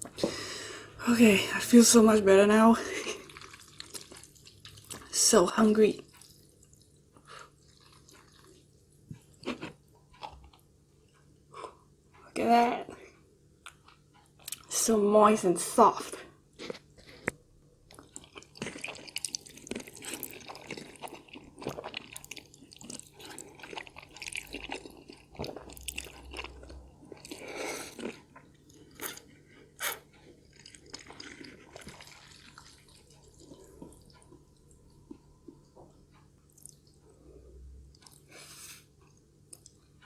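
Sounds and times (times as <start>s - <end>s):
person chewing food: 2.9s - 5.1s, 6.0s - 11.9s, 13.2s - 14.7s, 16.5s - 40.0s.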